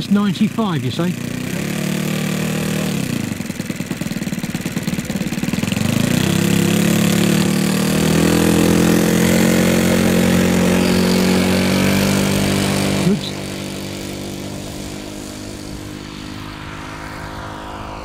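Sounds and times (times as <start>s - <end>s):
model plane engine: 0.0s - 18.0s.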